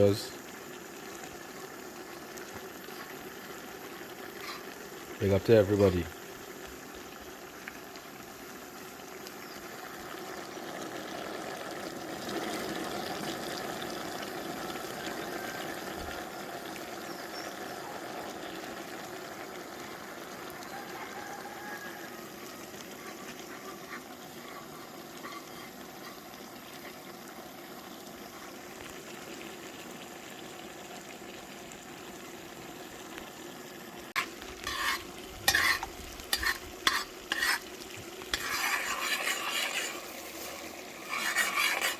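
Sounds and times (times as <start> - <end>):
chicken sizzling in a pot: 0.0 - 41.9.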